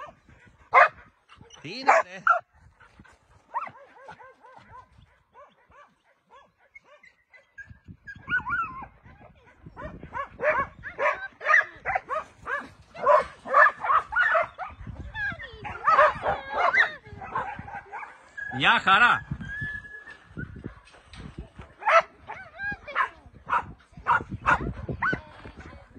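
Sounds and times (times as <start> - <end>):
dogs barking and yipping: 0.0 - 25.2.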